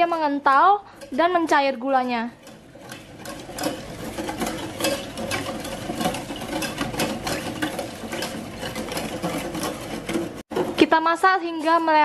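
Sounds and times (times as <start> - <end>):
metal spoon scraping a metal pot: 0.0 - 12.0.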